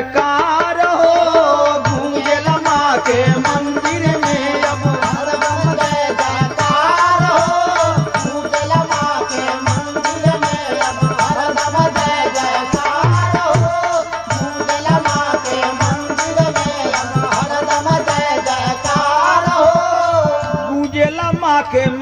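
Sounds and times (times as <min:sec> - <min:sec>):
hand drum rhythm: 0:00.2 - 0:22.0.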